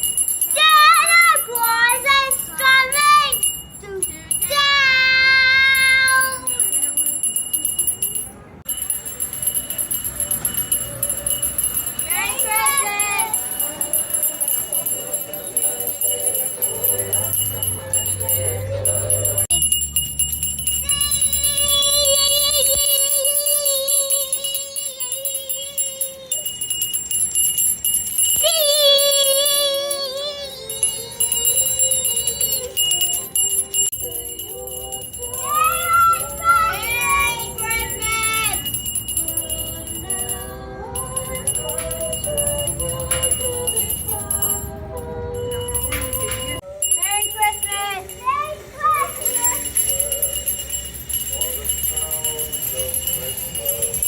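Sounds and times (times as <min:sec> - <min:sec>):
christmas melody in held notes: 0:00.0 - 0:54.0
handbell ringing: 0:00.0 - 0:54.0.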